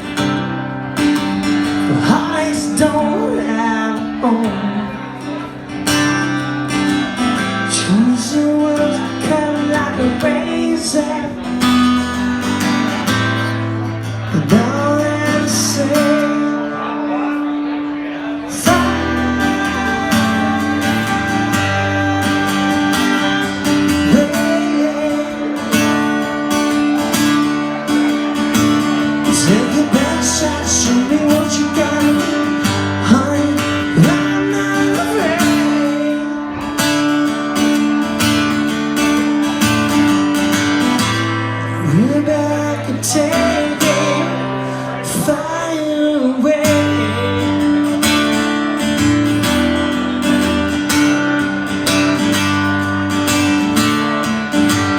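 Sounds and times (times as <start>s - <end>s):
acoustic guitar strumming chords: 0.0s - 54.9s
man singing: 0.0s - 54.9s.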